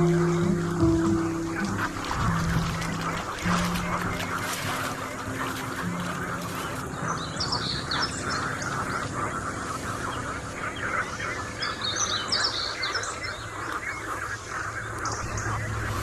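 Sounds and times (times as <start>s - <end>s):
high chirping bird song: 0.0s - 16.0s
steady crackling noise: 0.0s - 16.0s.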